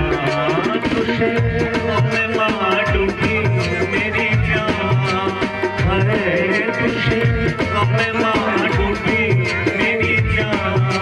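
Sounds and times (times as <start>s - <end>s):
harmonium chords: 0.0s - 11.0s
man singing: 0.0s - 11.0s
tabla rhythm: 0.0s - 11.0s.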